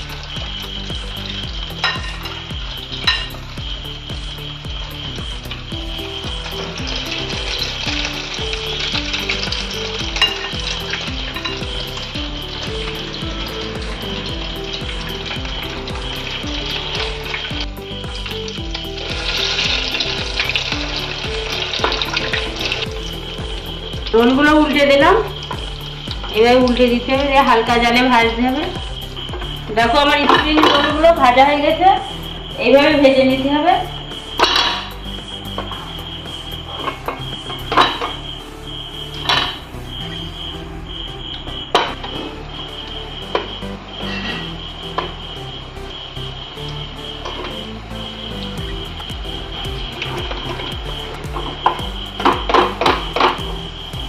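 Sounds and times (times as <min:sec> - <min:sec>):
oil sizzling while deep-frying: 0:00.0 - 0:54.0.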